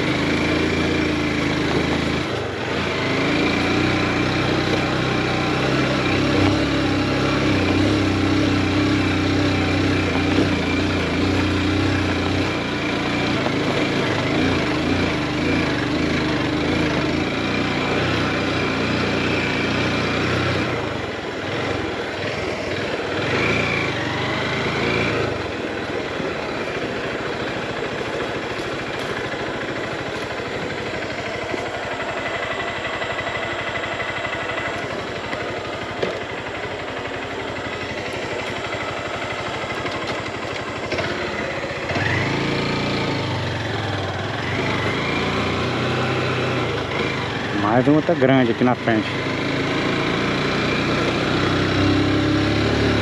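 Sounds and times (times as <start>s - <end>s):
motorcycle engine running: 0.0s - 53.0s
road noise: 0.0s - 53.0s.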